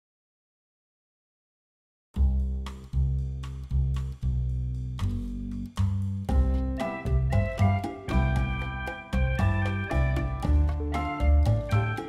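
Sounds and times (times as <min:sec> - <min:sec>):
instrumental background music: 0:02.2 - 0:12.0.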